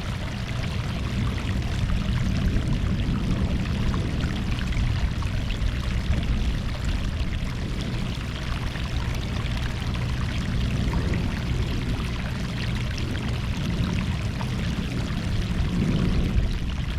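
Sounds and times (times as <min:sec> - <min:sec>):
crackling trickles: 0:00.0 - 0:16.9
low rumble: 0:00.0 - 0:16.9
sea water washing against shore: 0:00.0 - 0:16.9.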